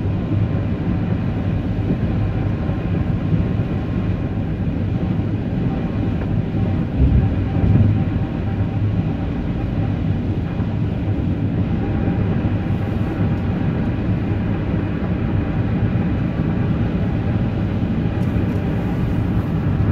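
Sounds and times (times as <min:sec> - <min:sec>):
low engine drone: 0:00.0 - 0:19.9
moving vehicle rumble: 0:00.0 - 0:19.9.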